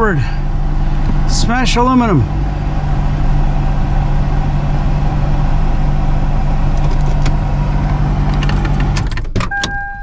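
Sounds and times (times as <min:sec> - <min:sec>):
car engine running: 0:00.0 - 0:09.7.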